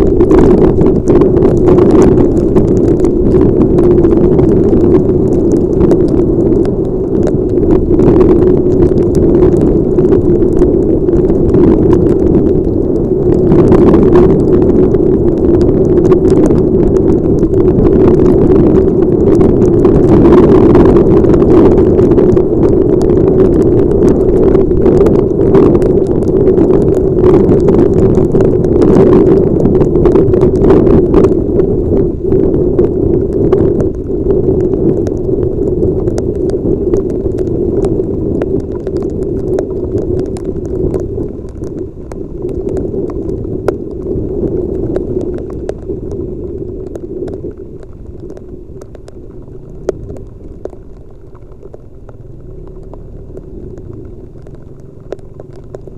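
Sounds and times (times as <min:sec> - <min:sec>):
rain tapping: 0:00.0 - 0:55.9
wind rushing on helmet: 0:00.0 - 0:55.9.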